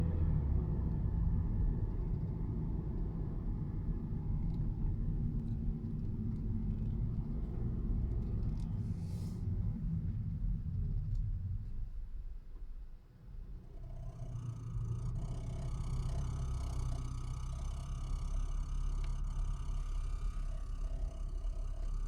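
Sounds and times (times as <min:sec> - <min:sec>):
car engine rumble from inside: 0:00.0 - 0:22.0.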